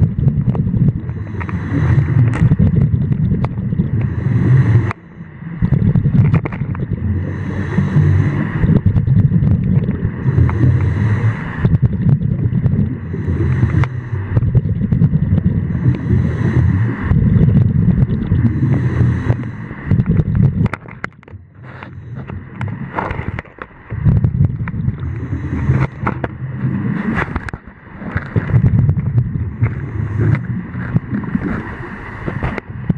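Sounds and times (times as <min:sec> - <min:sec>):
bubbling exhaled air: 0:00.0 - 0:32.9
regulator breathing underwater: 0:00.7 - 0:20.6, 0:21.6 - 0:24.1, 0:24.7 - 0:27.4, 0:28.2 - 0:32.6.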